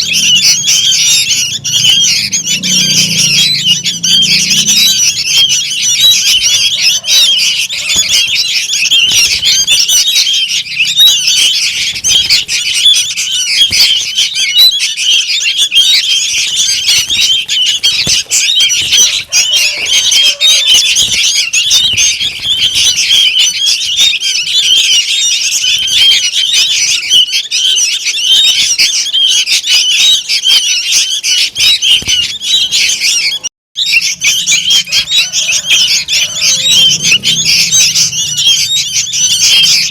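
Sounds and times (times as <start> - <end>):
young birds chattering squeaky calls: 0.0 - 39.9.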